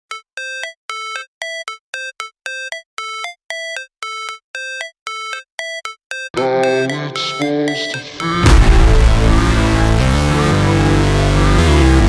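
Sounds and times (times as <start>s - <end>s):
electronic music with clipped notes: 0.0s - 12.0s.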